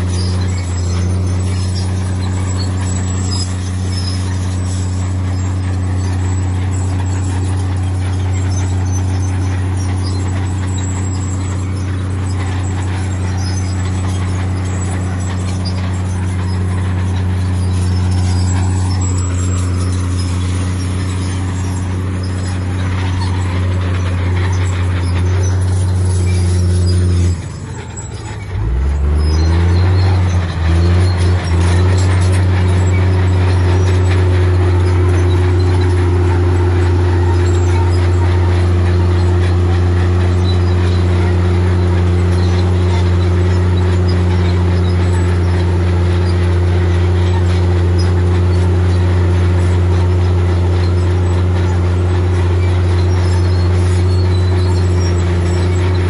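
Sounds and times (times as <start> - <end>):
heavy diesel engine drone: 0.0 - 56.0.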